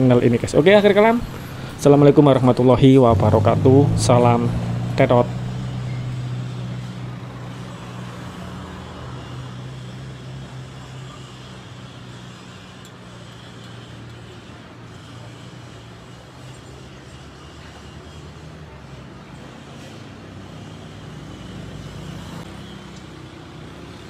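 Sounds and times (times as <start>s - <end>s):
idling car engines hum: 0.0s - 24.0s.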